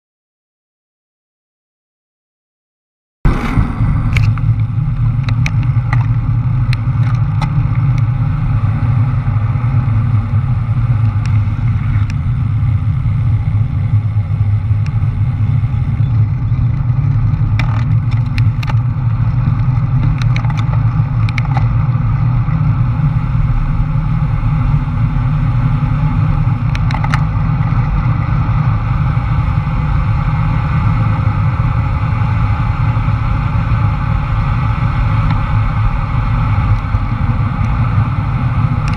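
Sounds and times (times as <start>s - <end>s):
wind buffeting microphone: 3.3s - 38.9s.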